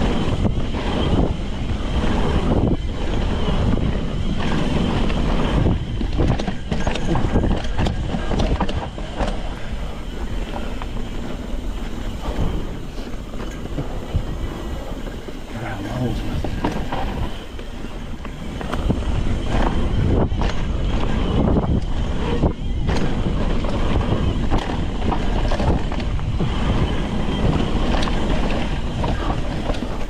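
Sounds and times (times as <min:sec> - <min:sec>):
bike rattling over bumps: 0:00.0 - 0:30.0
tyres rolling over dirt: 0:00.0 - 0:30.0
wind buffeting microphone: 0:00.0 - 0:30.0.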